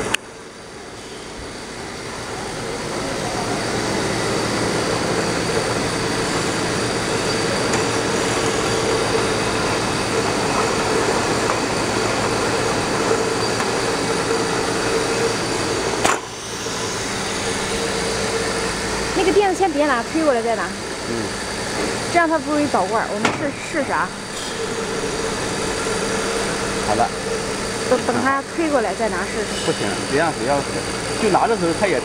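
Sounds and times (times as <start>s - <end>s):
conveyor hum: 0.0s - 32.0s.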